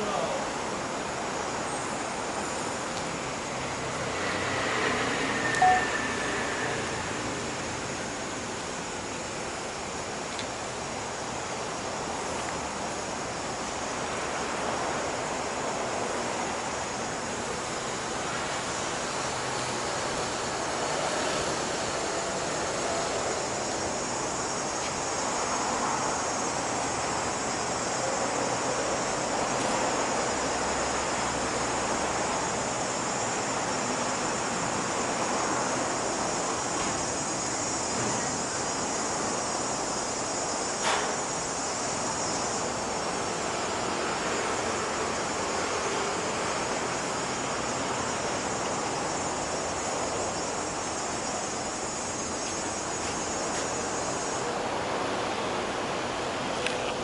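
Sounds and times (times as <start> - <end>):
insect chorus: 0.0 - 57.0
traffic hum: 0.0 - 57.0.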